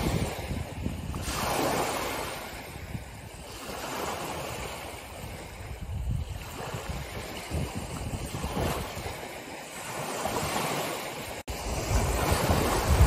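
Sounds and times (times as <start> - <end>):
small ocean waves breaking: 0.0 - 13.0.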